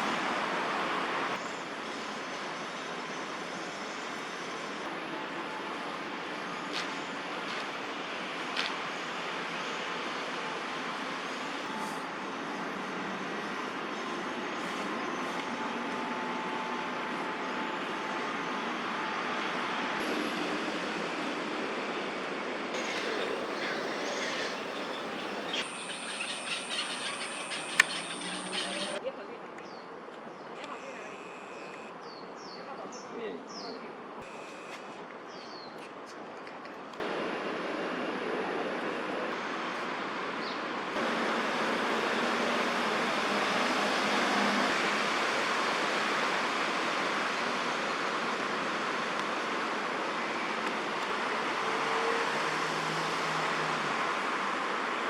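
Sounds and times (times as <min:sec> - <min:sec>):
distant traffic: 0:00.0 - 0:35.8, 0:36.6 - 0:55.0.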